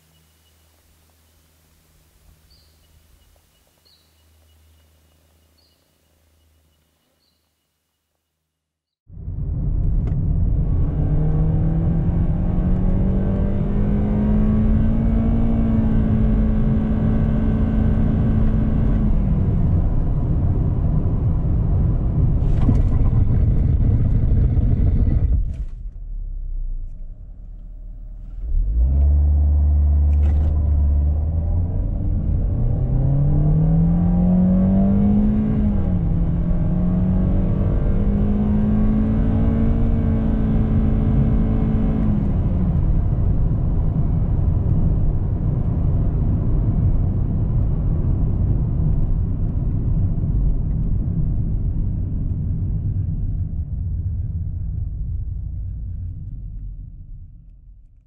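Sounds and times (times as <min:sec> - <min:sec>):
car engine accelerating: 0:09.1 - 0:56.7.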